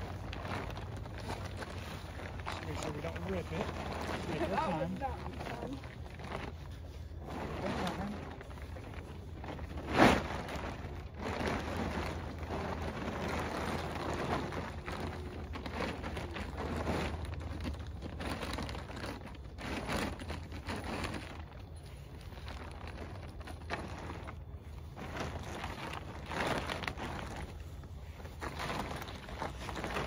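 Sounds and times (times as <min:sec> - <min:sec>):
plastic sheet rustling: 0:00.0 - 0:30.0.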